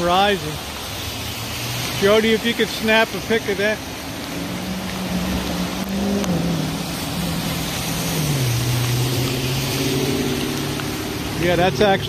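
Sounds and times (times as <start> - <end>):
rushing floodwater: 0.0 - 12.0
passing vehicle engine hum: 0.1 - 12.0.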